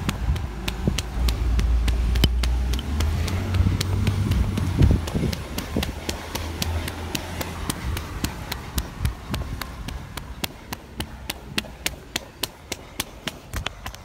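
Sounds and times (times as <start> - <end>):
flip-flop footsteps on wet concrete: 0.0 - 14.0.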